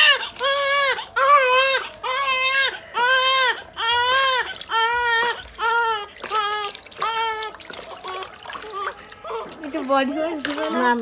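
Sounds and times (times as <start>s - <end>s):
baby crying: 0.0s - 9.6s.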